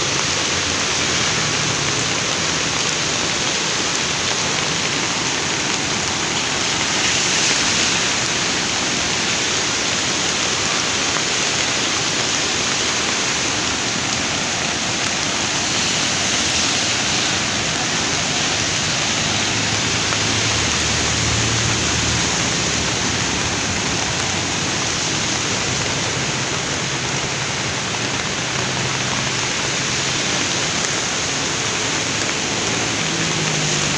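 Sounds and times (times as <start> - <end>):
flooded river rushing: 0.0 - 33.9
heavy rain: 0.0 - 33.9.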